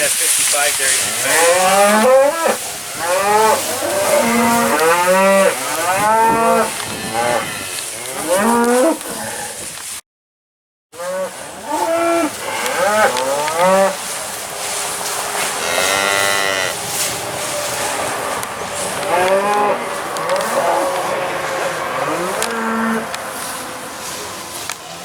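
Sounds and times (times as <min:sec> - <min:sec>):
cattle mooing: 0:01.2 - 0:09.6, 0:11.0 - 0:14.0, 0:15.0 - 0:23.8.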